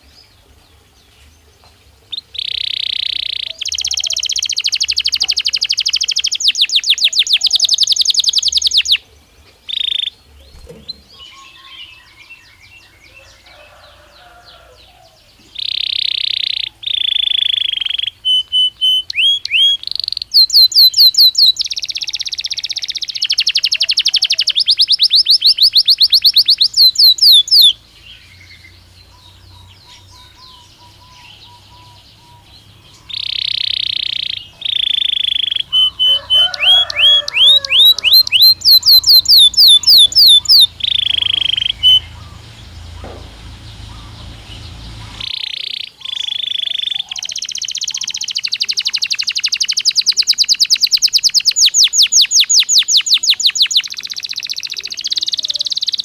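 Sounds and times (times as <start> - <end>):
canary singing: 2.1 - 56.0.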